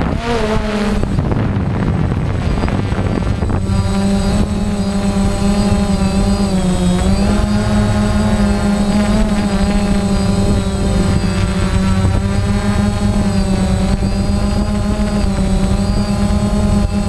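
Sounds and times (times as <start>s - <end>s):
drone motors buzzing: 0.0s - 17.0s
low rushing wind noise: 0.0s - 17.0s.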